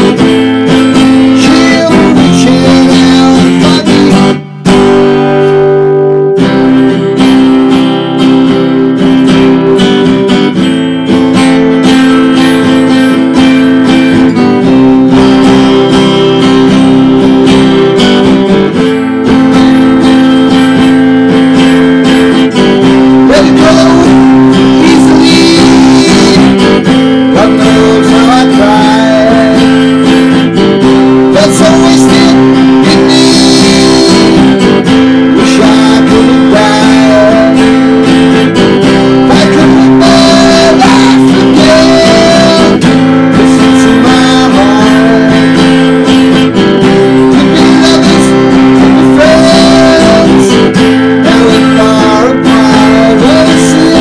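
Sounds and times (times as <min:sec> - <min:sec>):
strummed guitar chords: 0:00.0 - 0:54.0.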